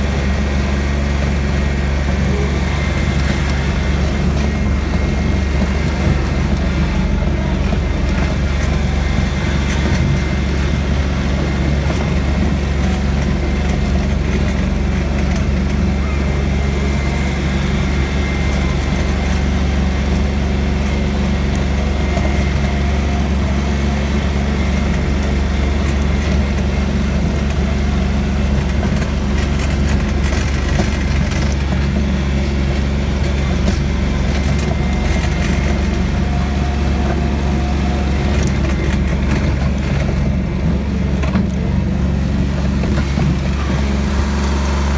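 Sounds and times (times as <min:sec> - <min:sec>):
tractor engine droning: 0:00.0 - 0:44.9.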